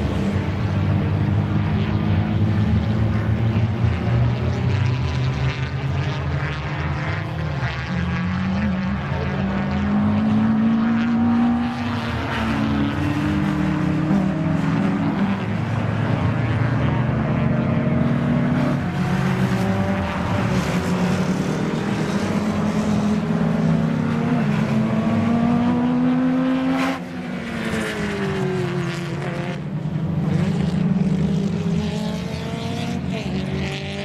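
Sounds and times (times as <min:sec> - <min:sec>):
racing car engines: 0:00.0 - 0:34.0.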